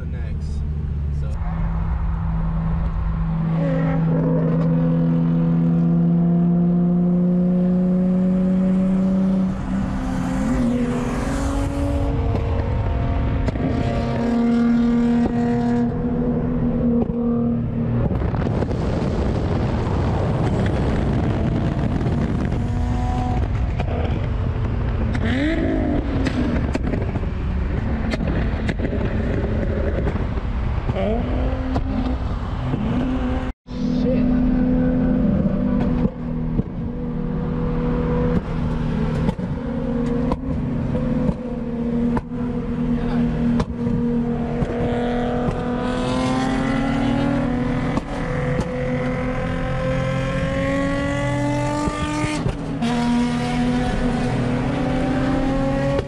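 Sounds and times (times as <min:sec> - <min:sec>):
car engines accelerating: 0:00.0 - 0:56.0
wind and road noise: 0:00.0 - 0:56.0.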